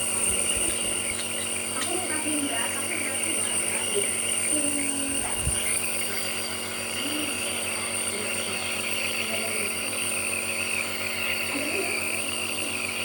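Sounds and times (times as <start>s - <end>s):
compressor motor humming: 0.0s - 13.0s.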